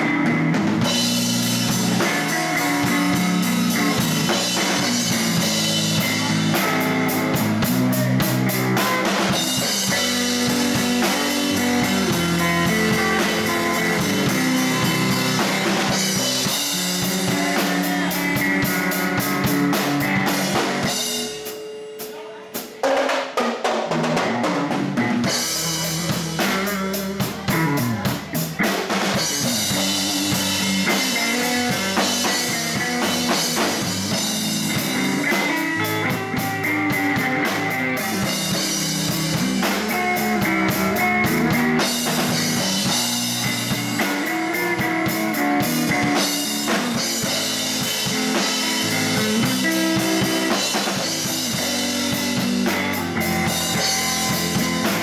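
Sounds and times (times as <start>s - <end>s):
electric bass: 0.0s - 21.4s, 24.0s - 55.0s
electric guitar: 0.0s - 22.0s, 23.8s - 55.0s
drum kit beat: 0.0s - 55.0s.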